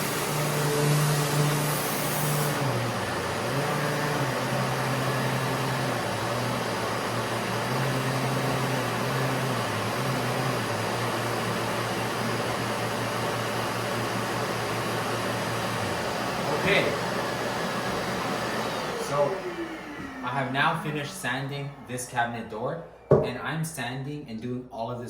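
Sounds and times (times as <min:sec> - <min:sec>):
sander whirring: 0:00.0 - 0:23.4
dust extraction vacuum hum: 0:00.0 - 0:24.0.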